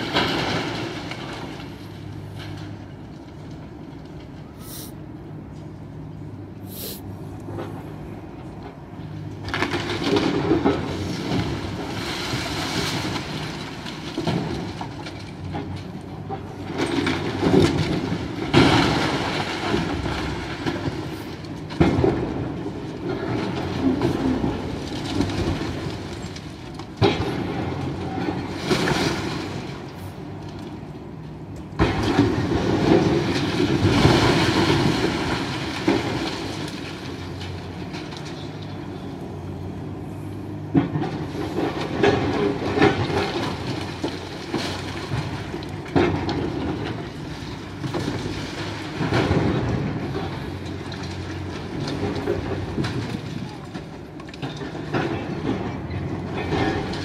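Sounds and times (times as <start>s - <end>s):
heavy machinery running: 0.0s - 57.0s
rubble crunching and clattering: 9.3s - 39.2s, 40.5s - 57.0s.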